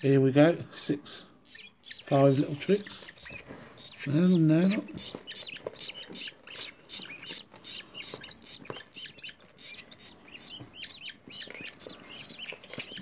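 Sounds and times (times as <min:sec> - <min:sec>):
budgerigars chirping: 0:00.8 - 0:13.0.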